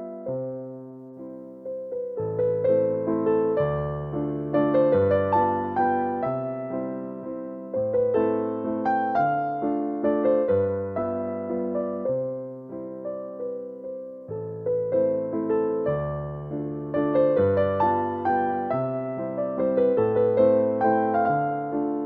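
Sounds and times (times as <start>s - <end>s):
soft piano melody: 0.0s - 22.0s.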